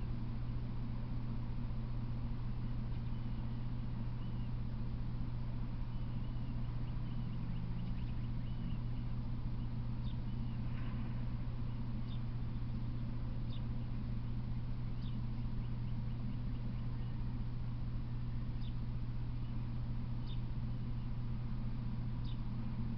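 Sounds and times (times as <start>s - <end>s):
low hum with hiss: 0.0s - 22.9s.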